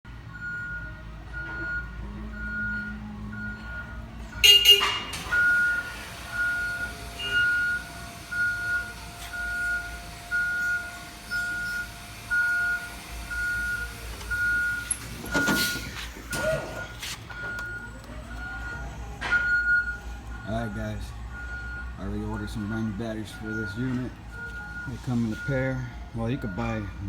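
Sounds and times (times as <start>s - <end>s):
reverse warning beeper: 0.3s - 27.0s.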